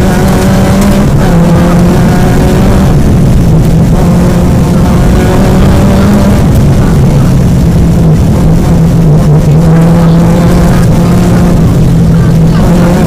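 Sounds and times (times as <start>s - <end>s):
car engine running hard: 0.0s - 13.0s
low rumble: 0.0s - 13.0s.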